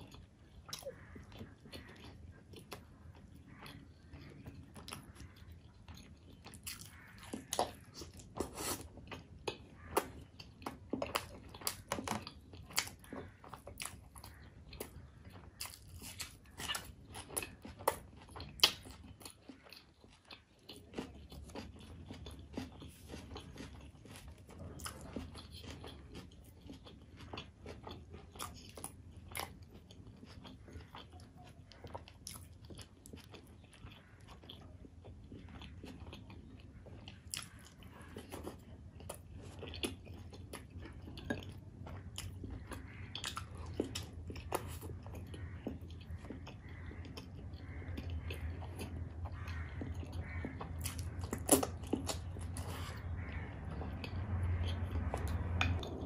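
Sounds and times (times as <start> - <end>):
steady chewing: 0.0 - 56.0.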